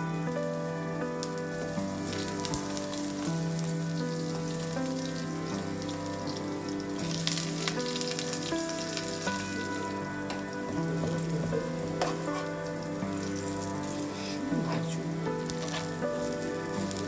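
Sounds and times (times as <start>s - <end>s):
background music: 0.0s - 17.0s
food sizzling in hot oil: 0.0s - 17.0s.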